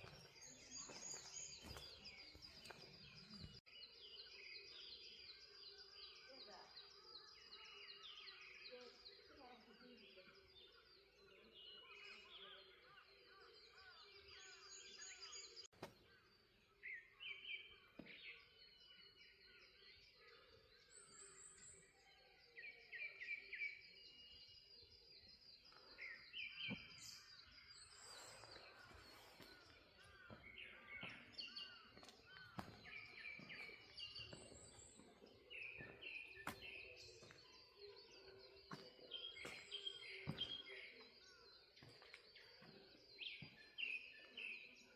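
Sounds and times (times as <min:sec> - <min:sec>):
birds chirping and trilling: 0:00.0 - 0:44.9.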